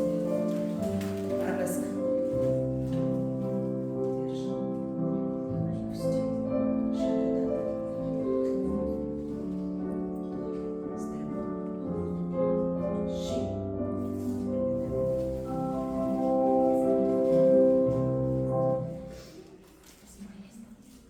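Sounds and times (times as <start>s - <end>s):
classical piano music: 0.0s - 19.5s.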